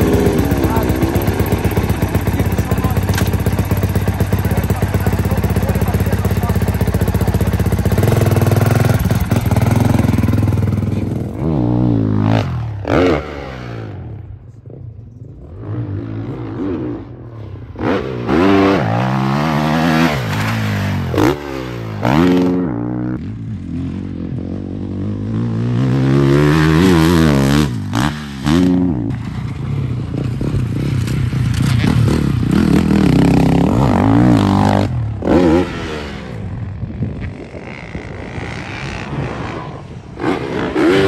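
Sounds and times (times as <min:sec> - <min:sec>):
motocross engine revving: 0:00.0 - 0:14.2, 0:15.5 - 0:29.3, 0:30.2 - 0:36.6, 0:37.6 - 0:41.0.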